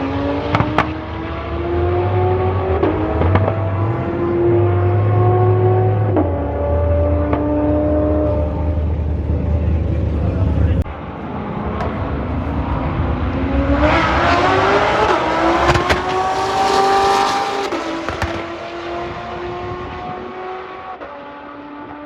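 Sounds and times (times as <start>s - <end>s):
drag car engine accelerating: 0.0s - 22.0s.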